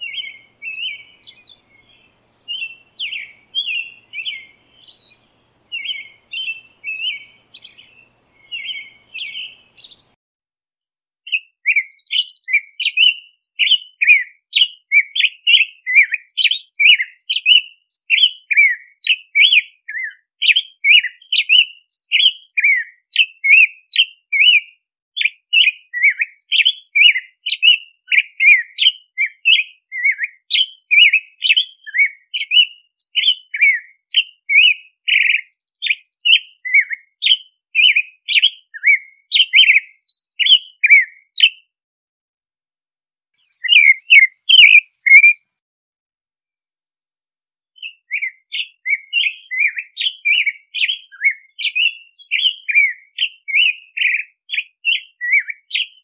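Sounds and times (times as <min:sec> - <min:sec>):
robin singing: 0:00.0 - 0:10.2, 0:11.2 - 0:24.6, 0:25.2 - 0:41.7, 0:43.4 - 0:45.5, 0:47.8 - 0:56.0.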